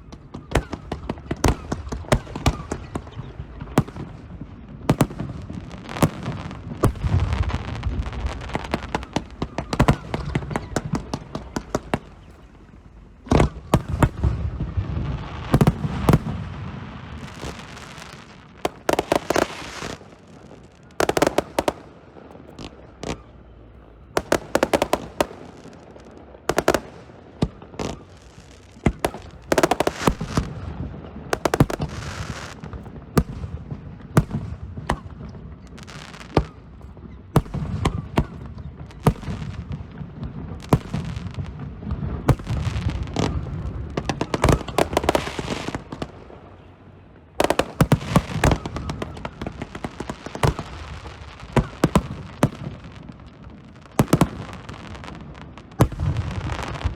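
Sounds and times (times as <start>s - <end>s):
fireworks bangs: 0.0s - 56.9s
fireworks rumble and crackle: 0.0s - 56.9s.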